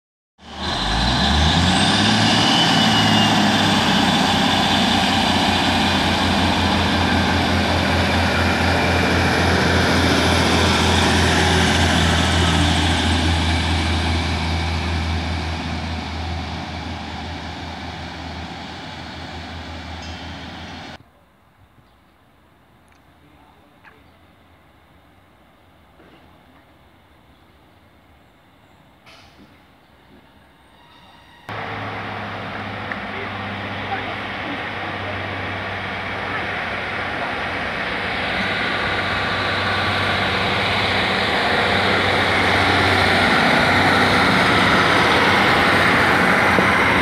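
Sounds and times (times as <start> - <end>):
diesel train engines passing: 0.4 - 21.0, 22.5 - 47.0.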